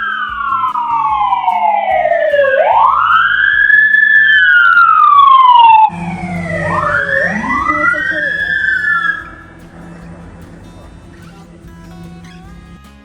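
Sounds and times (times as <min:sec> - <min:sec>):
police siren wailing: 0:00.0 - 0:12.4
background music: 0:00.0 - 0:13.0.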